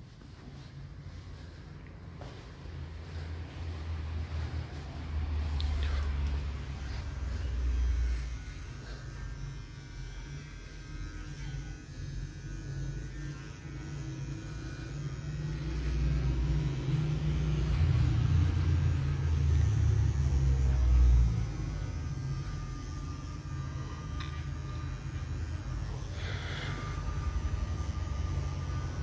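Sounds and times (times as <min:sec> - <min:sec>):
hair trimmer humming: 0:03.0 - 0:29.0.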